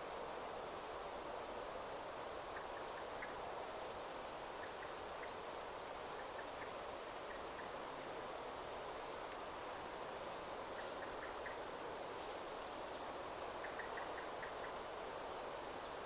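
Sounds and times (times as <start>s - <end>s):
wind through trees: 0.0s - 16.0s.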